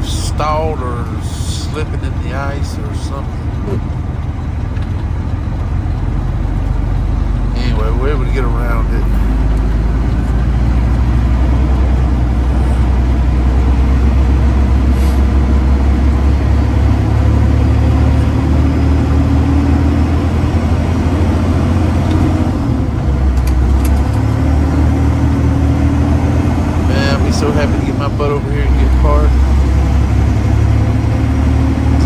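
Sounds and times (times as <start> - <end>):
faint engine whine: 0.0 - 32.0
truck engine drone in cab: 0.0 - 32.0.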